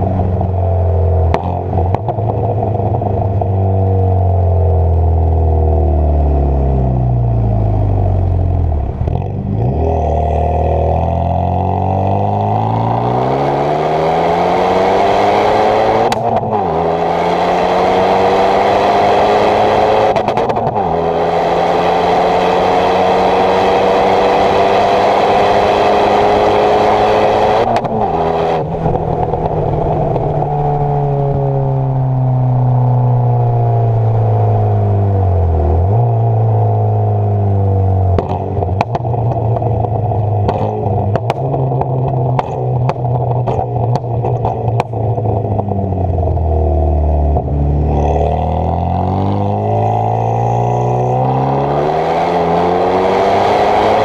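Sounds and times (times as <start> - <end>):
car engine accelerating through gears: 0.0 - 54.0.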